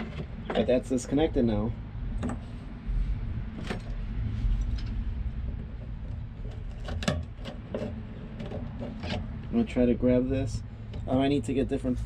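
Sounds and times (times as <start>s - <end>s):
steady low rumble: 0.3s - 12.0s.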